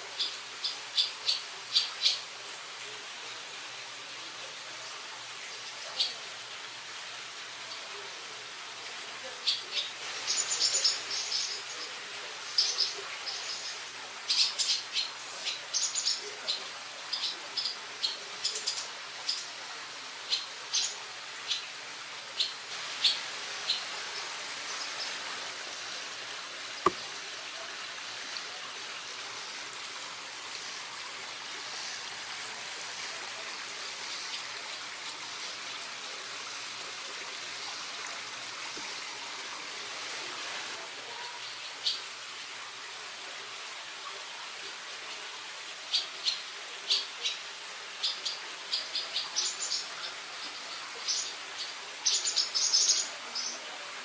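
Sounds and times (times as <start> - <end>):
steady outdoor hiss: 0.0 - 54.0.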